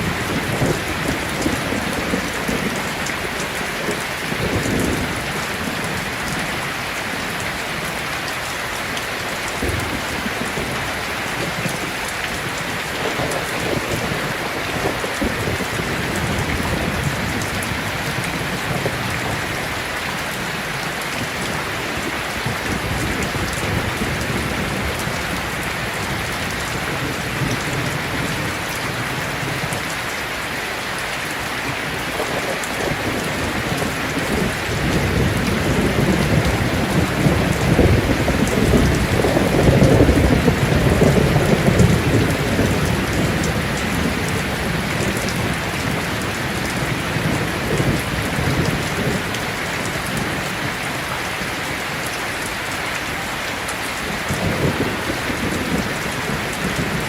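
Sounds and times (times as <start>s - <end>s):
thunder rumbling: 0.0s - 6.6s, 9.5s - 30.1s, 31.8s - 50.8s, 54.0s - 57.0s
heavy rain falling: 0.0s - 57.0s.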